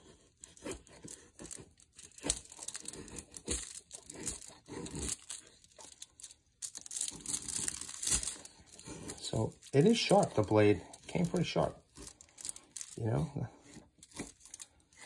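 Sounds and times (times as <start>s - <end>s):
aluminium foil crinkling: 0.0s - 15.0s
knife shaving wooden stick: 0.0s - 15.0s.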